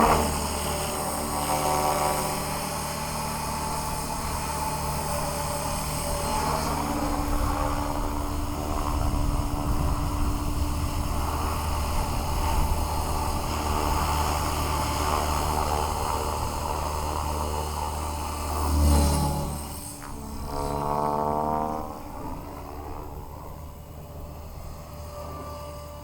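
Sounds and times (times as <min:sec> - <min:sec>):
electric motor whine: 0:00.0 - 0:26.0
helicopter rotor whir: 0:00.0 - 0:26.0.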